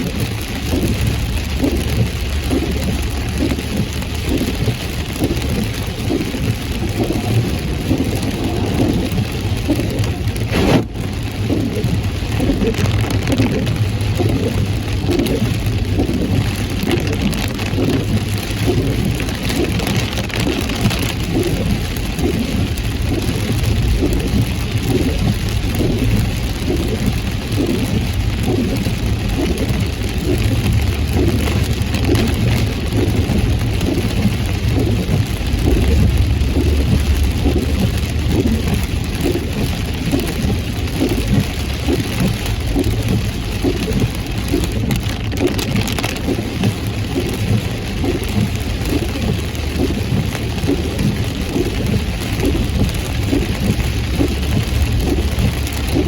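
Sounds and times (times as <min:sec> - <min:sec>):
heavy rain drumming on car: 0:00.0 - 0:56.0
road and engine rumble: 0:00.0 - 0:56.0.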